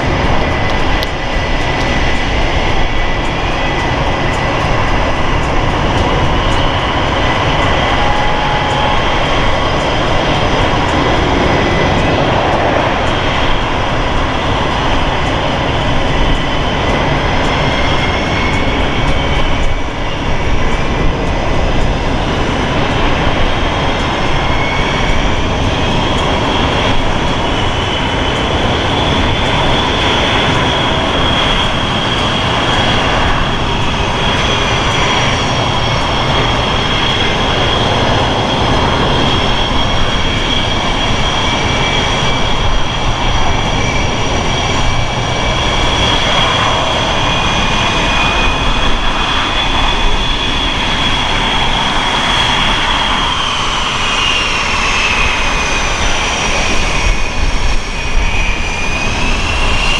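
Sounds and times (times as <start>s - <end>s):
high jet engine whines: 0.0s - 59.9s
jet engines rushing: 0.0s - 59.9s.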